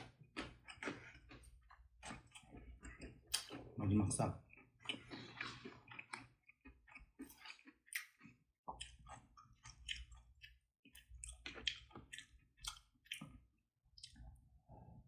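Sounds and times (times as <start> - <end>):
soft food crunches: 0.0 - 3.8, 4.4 - 14.4
mouth chewing food: 0.0 - 14.5.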